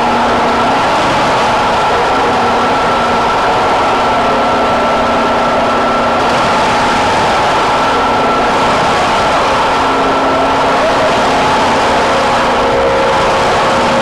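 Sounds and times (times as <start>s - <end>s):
ferry machinery drone: 0.0s - 14.0s.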